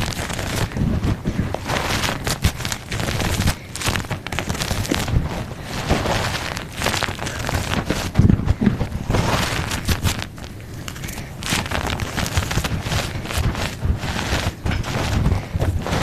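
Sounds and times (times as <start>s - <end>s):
chalk crunching: 0.0s - 16.0s.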